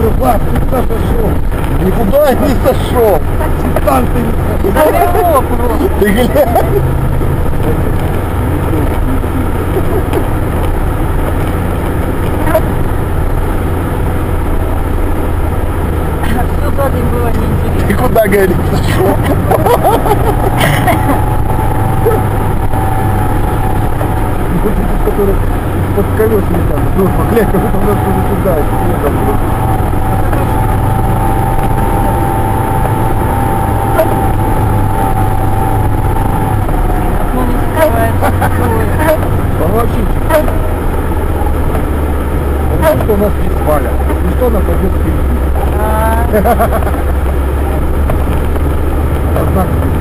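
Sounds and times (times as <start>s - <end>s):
steady whine: 0.0s - 49.4s
car engine and tyre drone: 0.0s - 50.0s.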